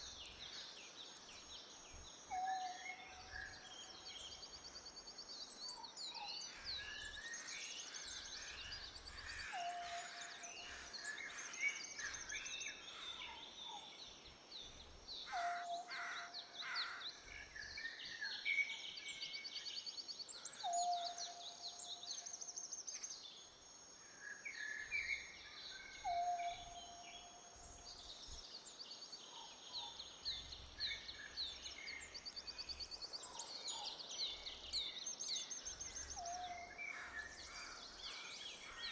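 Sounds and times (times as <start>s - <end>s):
birds chirping and trilling: 1.6s - 23.2s, 24.3s - 38.9s.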